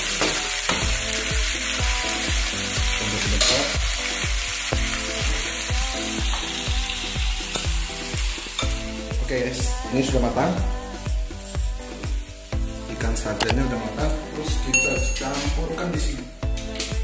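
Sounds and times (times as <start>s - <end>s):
background music with steady beat: 0.0s - 17.0s
fish sizzling in a frying pan: 0.0s - 17.0s.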